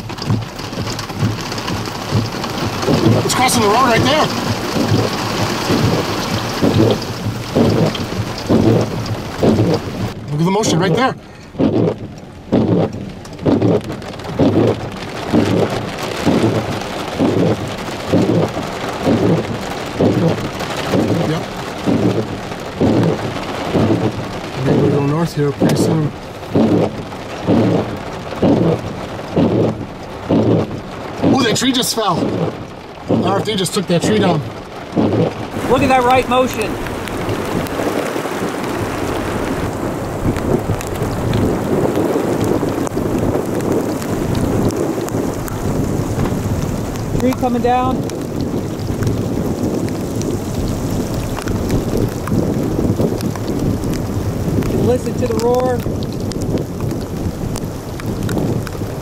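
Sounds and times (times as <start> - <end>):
heavy rain on vehicle: 0.0 - 59.0
windshield wipers sweeping: 0.0 - 59.0.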